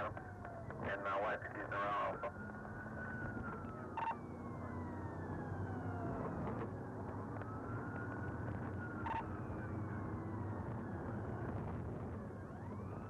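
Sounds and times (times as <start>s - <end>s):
police siren wailing: 0.0s - 13.0s.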